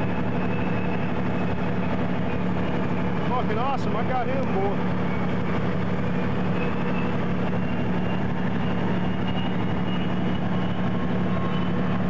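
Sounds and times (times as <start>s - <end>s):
vehicle engine and road drone: 0.0s - 12.0s.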